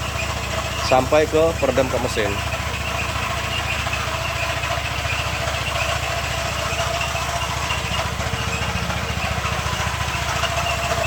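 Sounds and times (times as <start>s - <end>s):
faint motor whine: 0.0s - 11.0s
motor running steadily: 0.0s - 11.0s.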